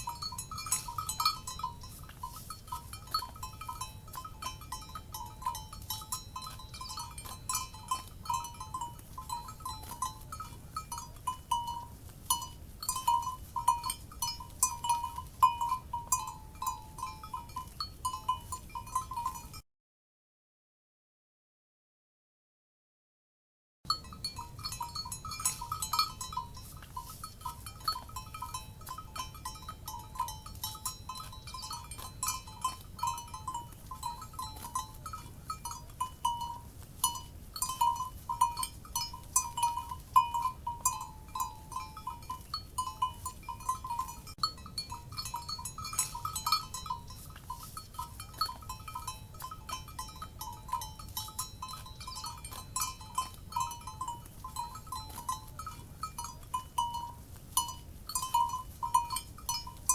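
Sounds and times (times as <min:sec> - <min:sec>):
low steady background noise: 0:00.0 - 0:19.5, 0:23.9 - 0:59.9
cowbells clanking: 0:00.0 - 0:19.6, 0:23.9 - 0:59.9.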